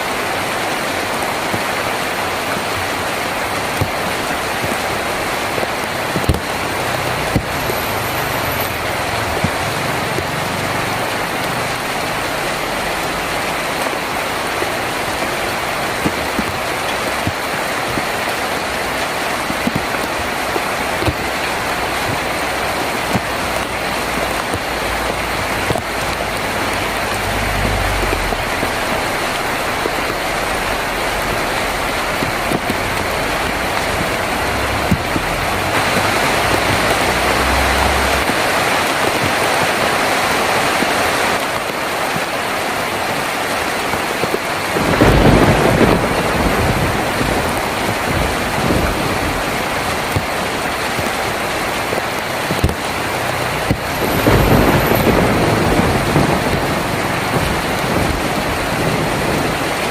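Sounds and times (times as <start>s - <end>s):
heavy rain on a tin roof: 0.0s - 59.9s
thunder rumbling: 0.8s - 39.8s, 44.6s - 59.9s
thunderclap: 1.1s - 39.9s, 43.9s - 59.9s.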